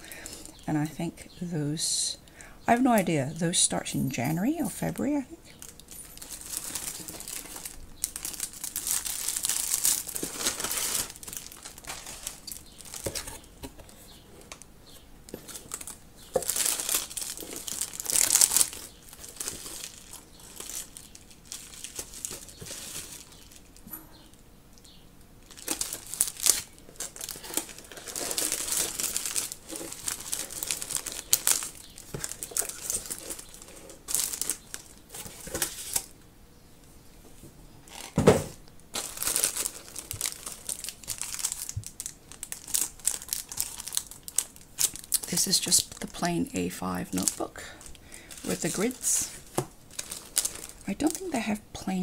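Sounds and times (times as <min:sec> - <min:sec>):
plastic packaging crinkling: 0:02.7 - 0:36.2, 0:37.8 - 0:52.0.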